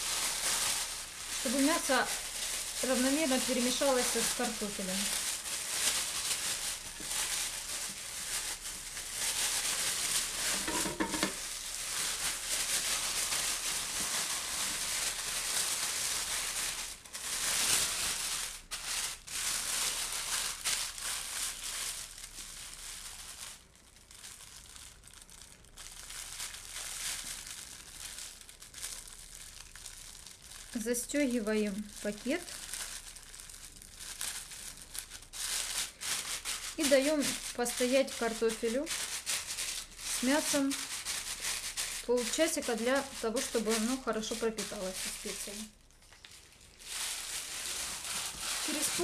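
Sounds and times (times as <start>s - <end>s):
plastic bag crinkling: 0.0s - 49.0s.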